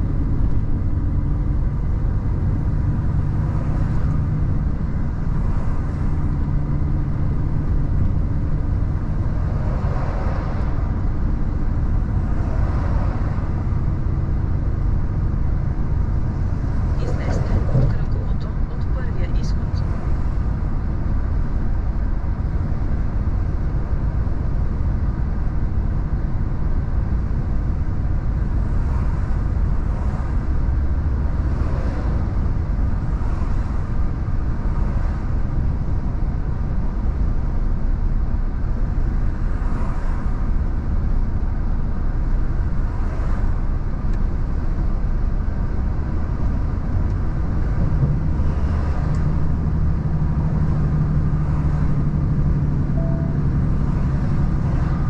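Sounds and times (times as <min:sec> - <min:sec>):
tyre and road rumble: 0:00.0 - 0:24.7, 0:25.6 - 0:55.0
diesel engine drone: 0:00.0 - 0:55.0
vehicles passing: 0:00.0 - 0:55.0.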